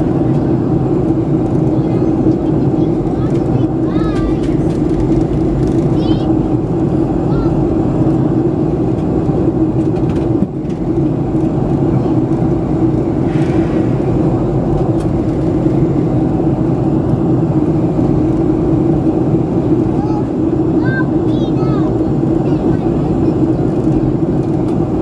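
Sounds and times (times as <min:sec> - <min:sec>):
airliner cabin rumbling rush: 0:00.0 - 0:25.0.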